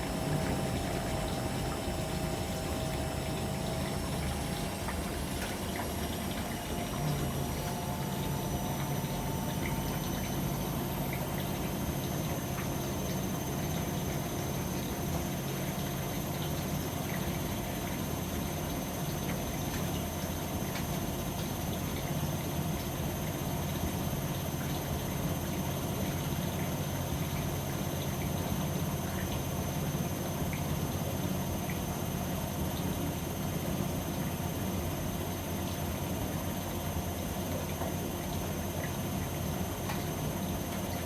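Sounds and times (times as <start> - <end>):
pump running: 0.0 - 41.0
water flowing in washing machine: 0.0 - 41.0.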